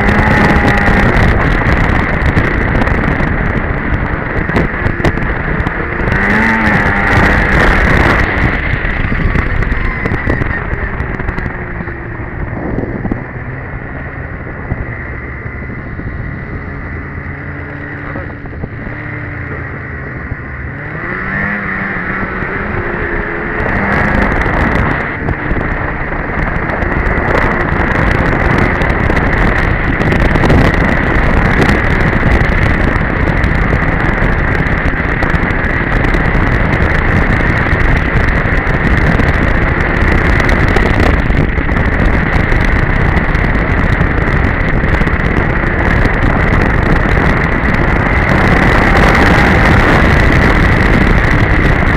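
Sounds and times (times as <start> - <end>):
snowmobile engine: 0.0 - 51.9.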